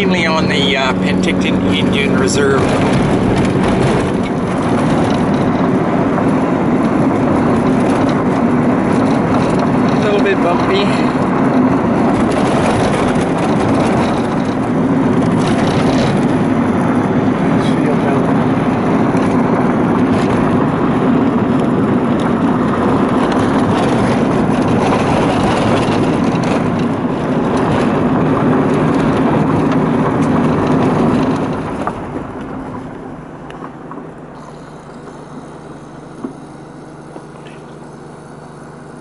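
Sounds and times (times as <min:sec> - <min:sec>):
tyres on gravel: 0:00.0 - 0:39.0
vehicle engine: 0:00.0 - 0:39.0.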